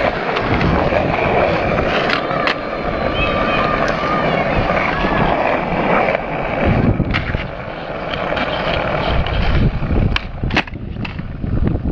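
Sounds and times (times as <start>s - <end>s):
skateboard clacks: 0.0s - 11.9s
skateboard rolling on asphalt: 0.0s - 11.9s.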